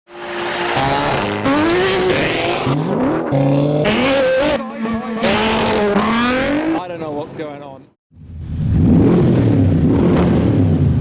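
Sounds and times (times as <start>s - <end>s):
car engines revving hard: 0.1s - 7.1s, 8.2s - 11.0s.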